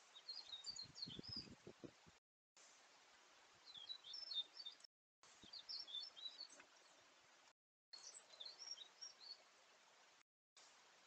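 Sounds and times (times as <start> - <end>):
songbirds chirping: 0.0 - 2.1, 2.7 - 11.0
faint steady hiss: 0.0 - 11.0.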